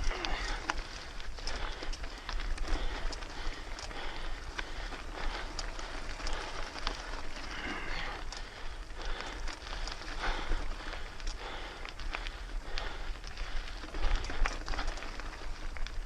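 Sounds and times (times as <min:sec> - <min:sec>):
bike clicks and rattles: 0:00.0 - 0:16.0
bike tyres on dirt trail: 0:00.0 - 0:16.0.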